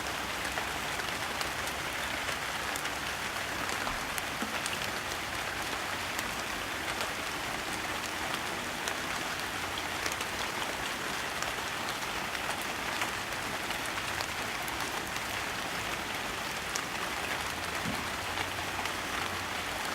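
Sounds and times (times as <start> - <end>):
raindrops ticking on a surface: 0.0 - 19.9
steady rain falling: 0.0 - 19.9.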